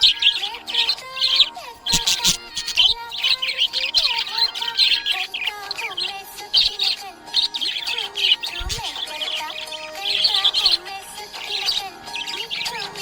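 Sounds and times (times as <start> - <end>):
budgies chirping and warbling: 0.0 - 13.0.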